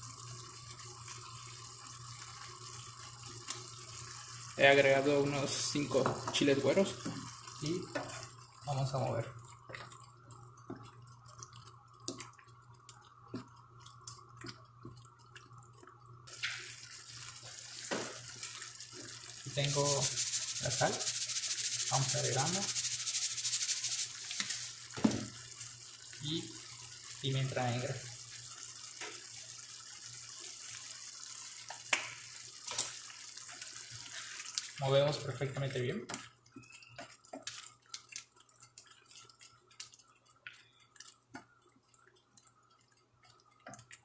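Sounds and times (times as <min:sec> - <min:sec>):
sauce simmering hiss: 0:00.0 - 0:44.0.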